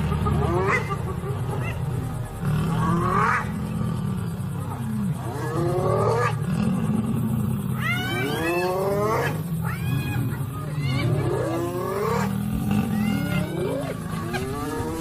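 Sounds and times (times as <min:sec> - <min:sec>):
hyenas whooping: 0:00.0 - 0:15.0
lions growling: 0:00.0 - 0:15.0.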